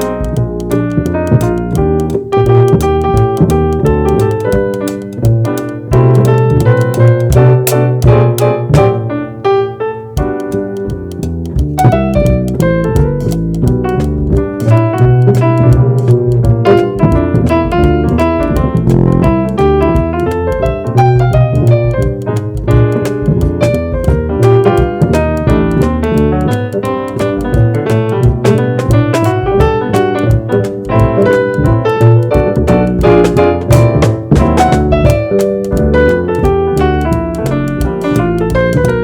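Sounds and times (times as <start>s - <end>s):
walking bass line: 0.0s - 9.4s, 10.1s - 39.0s
piano chords and melody: 0.0s - 39.0s.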